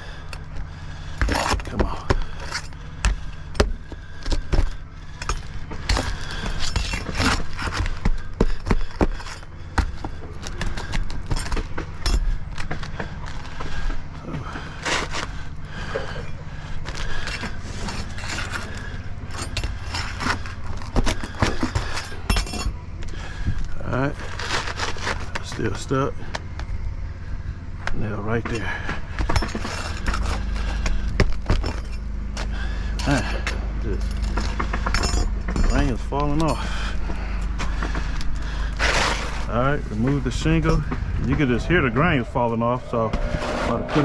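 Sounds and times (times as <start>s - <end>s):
steady low hum: 0.0s - 44.0s
tool scraping and clicking under shingle: 0.3s - 26.7s, 27.8s - 41.6s.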